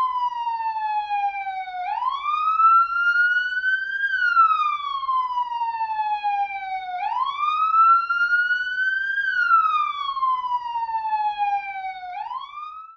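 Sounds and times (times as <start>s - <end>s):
police siren wailing: 0.0s - 12.9s.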